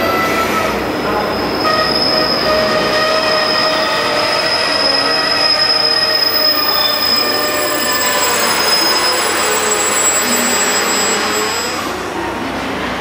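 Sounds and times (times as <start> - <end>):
train wheels squealing: 0.2 - 12.0.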